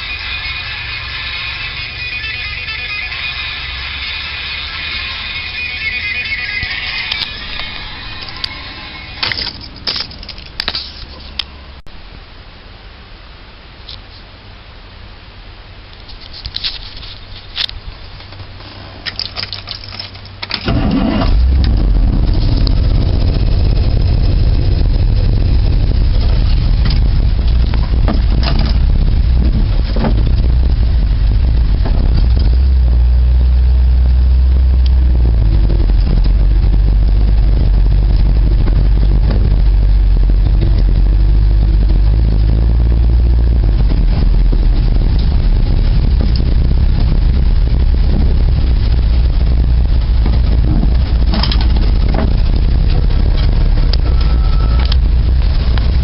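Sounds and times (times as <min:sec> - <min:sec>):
car engine running: 0:00.0 - 0:11.9, 0:19.6 - 0:56.0.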